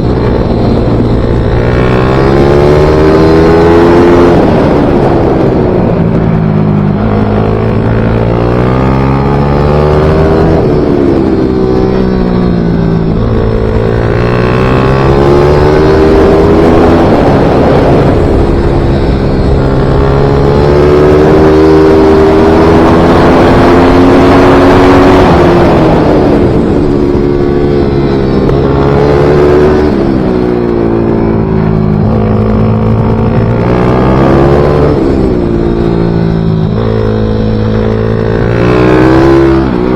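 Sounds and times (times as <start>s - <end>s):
pit bike engine racing: 0.0s - 39.9s.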